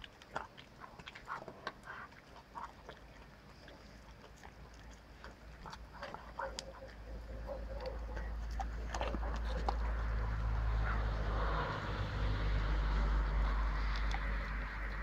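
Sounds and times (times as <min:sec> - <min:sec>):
dog chewing and licking: 0:00.0 - 0:15.0.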